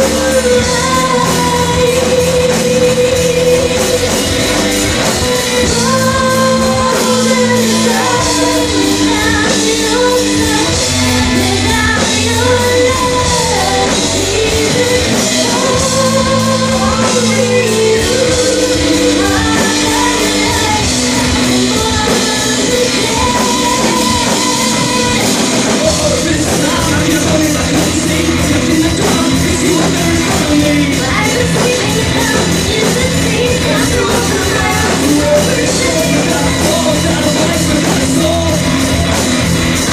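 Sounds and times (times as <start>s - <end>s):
rock song with singer: 0.0s - 39.9s.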